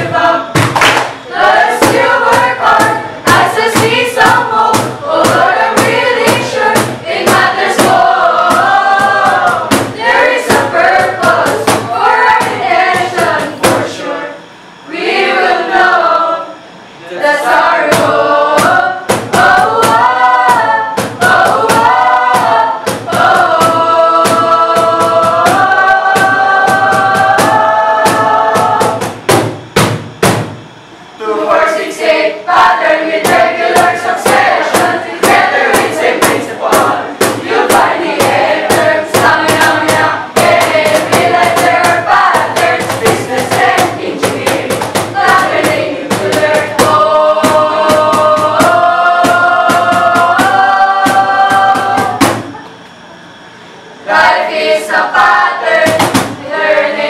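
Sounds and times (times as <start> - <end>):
steady percussion beat: 0.0 - 14.6, 16.8 - 57.0
young voices singing together: 0.0 - 57.0.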